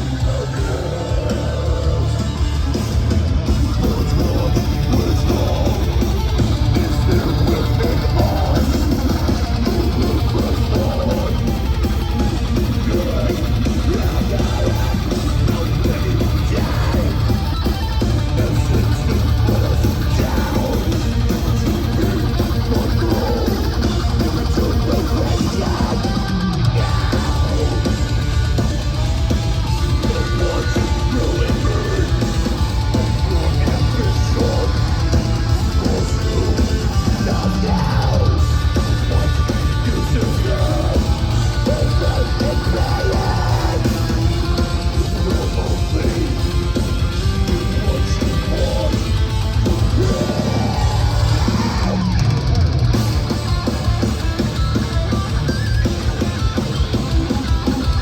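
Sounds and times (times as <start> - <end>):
distorted electric guitars: 0.0 - 58.0
drums: 0.0 - 58.0
live metalcore band playing loud: 0.0 - 58.0
shouted vocals: 3.6 - 28.6, 29.5 - 54.0.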